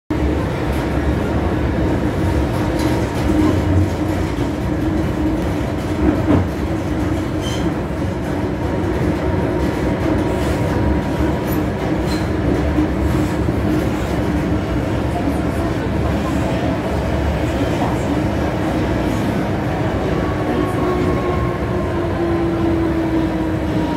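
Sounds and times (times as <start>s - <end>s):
train wheels rumbling on rail: 0.1s - 23.9s.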